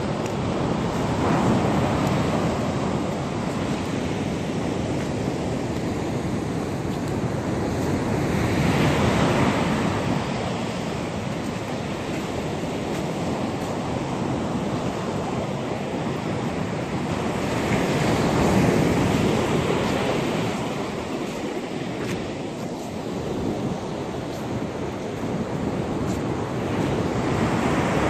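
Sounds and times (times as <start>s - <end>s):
surf breaking on sandy beach: 0.0s - 28.0s
wind on microphone: 0.0s - 28.0s.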